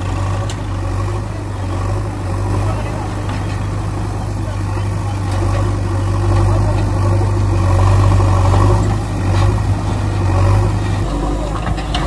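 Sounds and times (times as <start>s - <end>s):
heavy machine engine idling: 0.0s - 12.0s.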